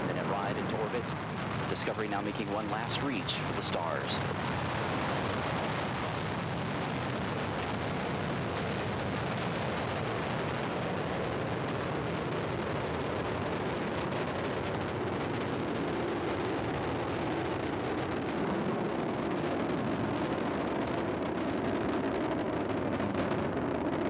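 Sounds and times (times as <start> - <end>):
crackling rocket rumble: 0.0 - 24.0.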